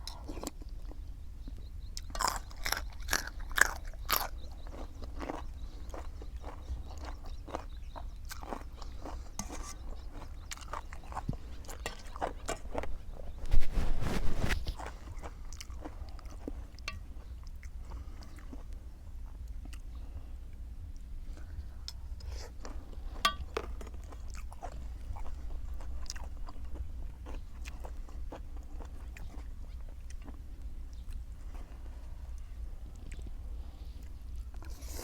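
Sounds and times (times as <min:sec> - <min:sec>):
person chewing food: 0:00.0 - 0:20.1, 0:21.0 - 0:35.0.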